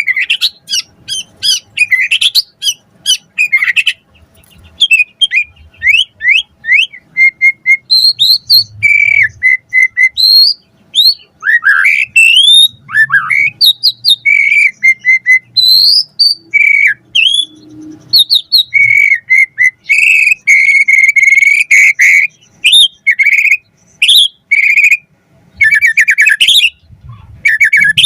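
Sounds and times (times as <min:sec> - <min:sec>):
bird singing fast varied song: 0:00.0 - 0:28.0.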